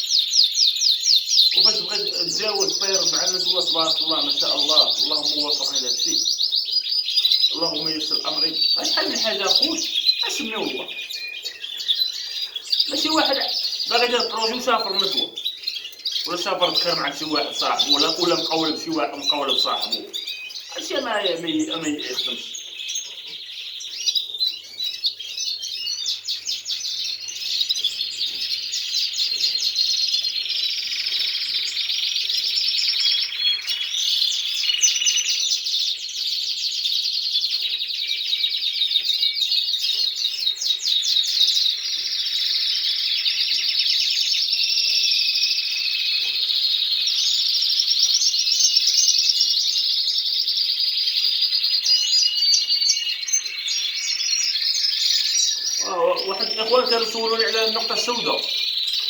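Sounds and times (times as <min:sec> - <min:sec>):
canaries singing trills: 0:00.0 - 0:59.0.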